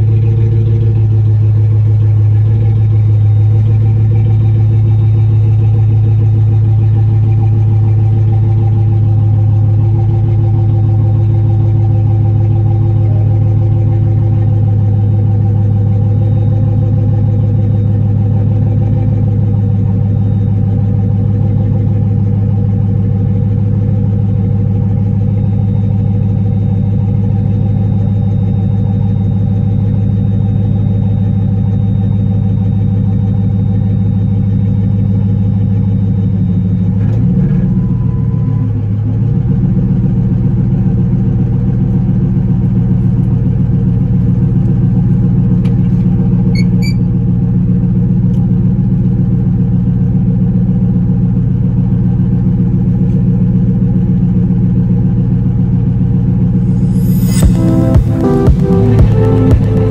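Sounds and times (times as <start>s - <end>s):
vehicle engine droning: 0.0s - 59.9s.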